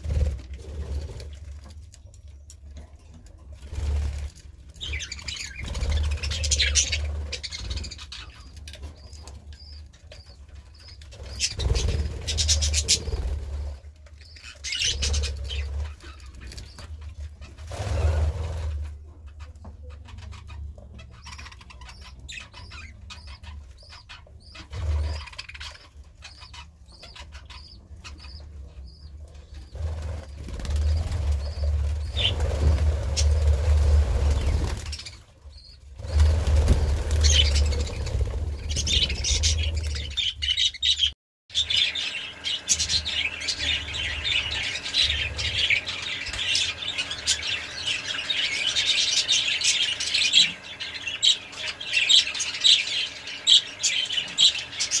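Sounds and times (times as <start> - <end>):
budgerigars chirping: 4.8 - 55.0.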